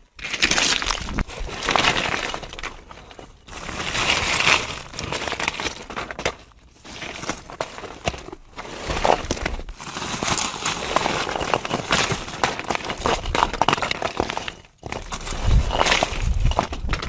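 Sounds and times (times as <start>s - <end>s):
rocks cracking and sliding: 0.0s - 17.0s
low rumble of rockslide: 0.1s - 17.0s.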